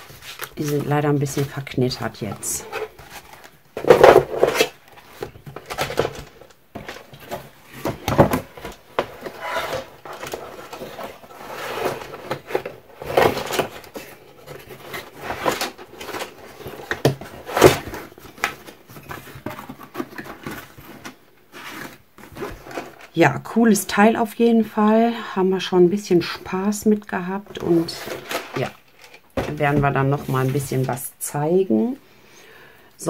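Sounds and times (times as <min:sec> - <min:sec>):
paper and plastic rustling: 0:00.0 - 0:23.2, 0:27.4 - 0:31.0.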